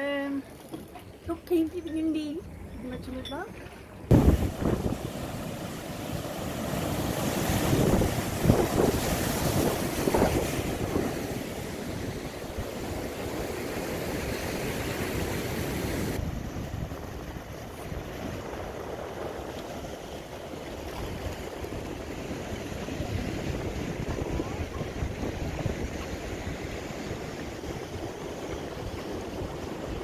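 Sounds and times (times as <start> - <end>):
sea waves: 3.5 - 30.0
wind buffeting microphone: 4.1 - 14.1, 15.6 - 30.0.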